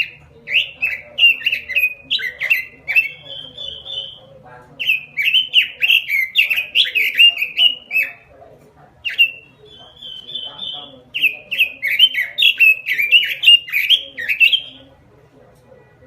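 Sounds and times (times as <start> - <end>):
bird singing whistled notes: 0.0 - 8.2, 9.0 - 14.8.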